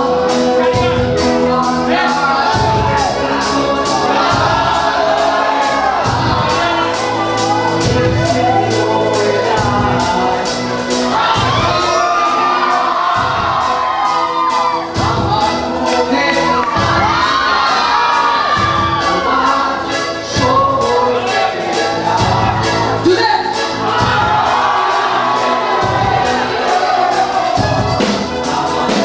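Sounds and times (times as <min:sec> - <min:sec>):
male lead singer: 0:00.0 - 0:26.0
crowd singing and shouting: 0:00.0 - 0:29.0
rock band playing: 0:00.0 - 0:29.0.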